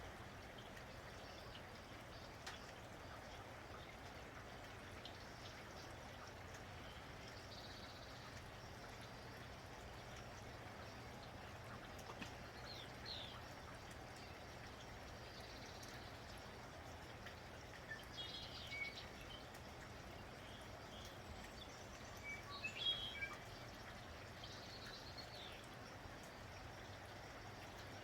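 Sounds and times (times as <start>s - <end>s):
drip ticks: 0.0s - 28.0s
steady rain falling: 0.0s - 28.0s.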